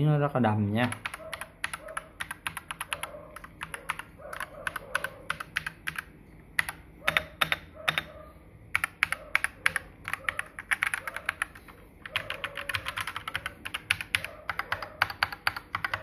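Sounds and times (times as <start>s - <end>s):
mechanical keyboard typing: 0.8s - 16.0s.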